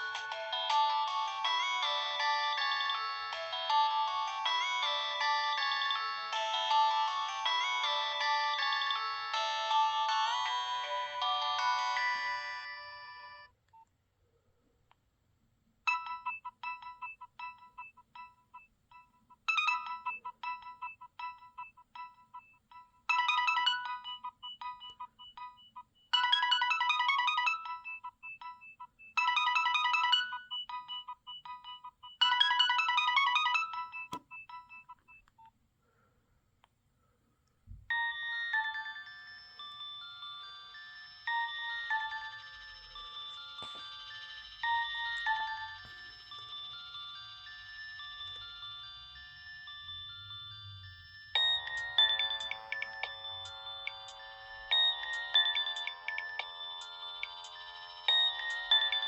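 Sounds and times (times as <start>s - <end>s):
mobile phone ringtone melody: 0.0s - 13.6s, 15.9s - 35.2s, 37.9s - 59.0s.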